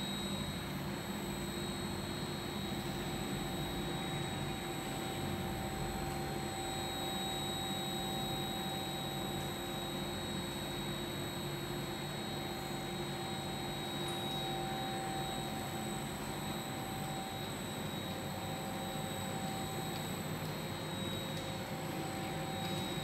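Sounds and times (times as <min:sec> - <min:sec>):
machine humming and whining: 0:00.0 - 0:23.0.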